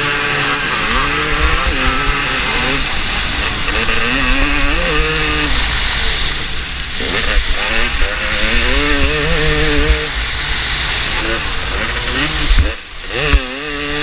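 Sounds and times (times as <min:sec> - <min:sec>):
motocross bike engine revving: 0:00.0 - 0:14.0
low wind rumble on microphone: 0:00.6 - 0:14.0.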